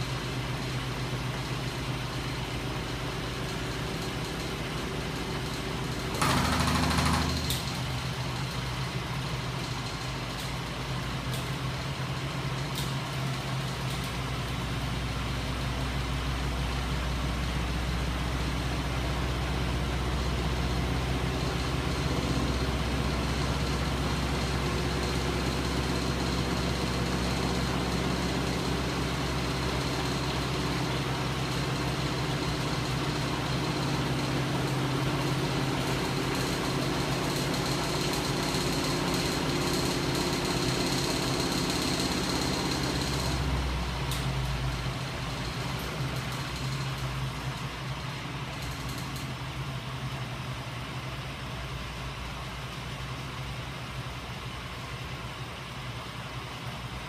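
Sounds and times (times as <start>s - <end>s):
motor steady mechanical hum: 0.0s - 57.0s.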